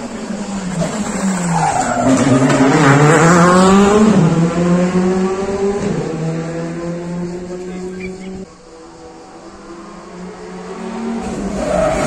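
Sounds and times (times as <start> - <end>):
rally car passing at speed: 0.0 - 12.0.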